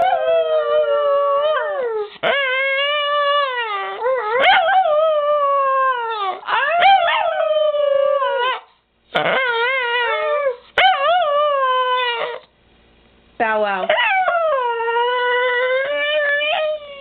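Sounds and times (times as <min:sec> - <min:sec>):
dog howling: 0:00.0 - 0:08.6, 0:09.2 - 0:12.5, 0:13.9 - 0:17.0.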